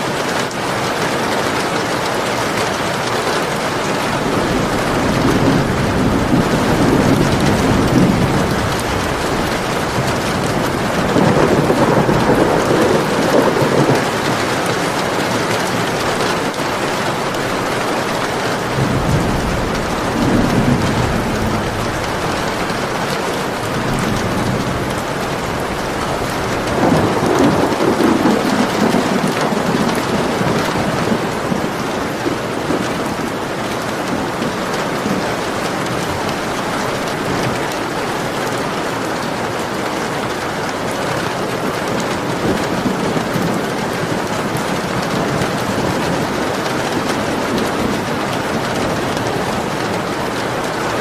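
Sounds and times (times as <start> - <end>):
heavy rain: 0.0 - 51.0
thunder rolling: 3.6 - 51.0.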